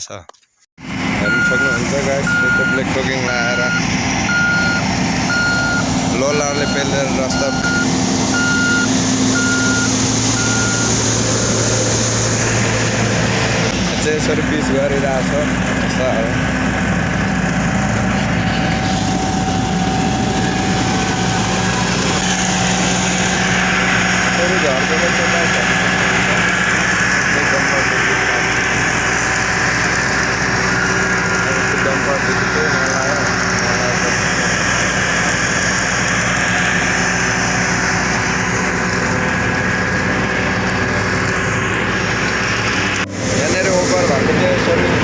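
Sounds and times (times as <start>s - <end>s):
road roller diesel engine: 0.8s - 45.0s.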